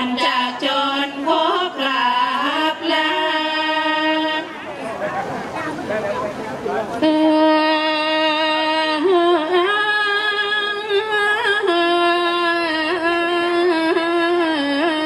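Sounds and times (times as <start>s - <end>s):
woman chanting into a microphone: 0.0s - 4.7s, 7.0s - 15.0s.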